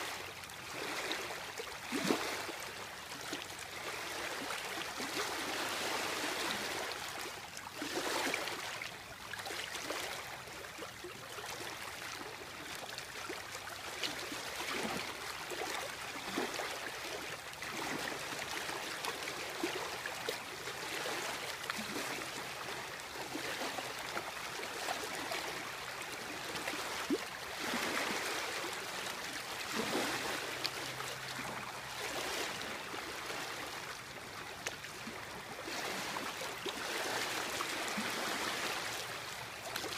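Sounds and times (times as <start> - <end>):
river waves lapping and splashing: 0.0 - 39.9.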